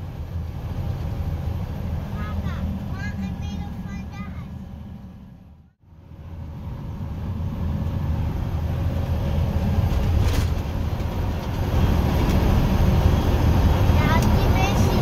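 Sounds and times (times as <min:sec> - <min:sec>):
road and tyre noise: 0:00.0 - 0:15.0
truck engine drone: 0:00.0 - 0:15.0.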